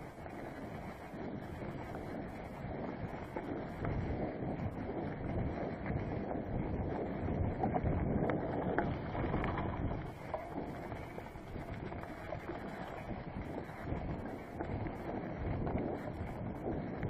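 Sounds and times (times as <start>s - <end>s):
bike rattles and clicks: 0.0s - 17.0s
bike tyres rolling over dry leaves: 0.0s - 17.0s
wind buffeting microphone: 0.0s - 17.0s.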